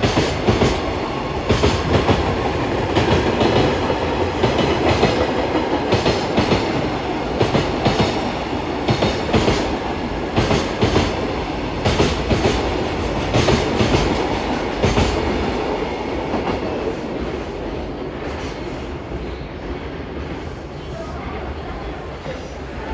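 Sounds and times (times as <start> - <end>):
train rumble: 0.0 - 22.9.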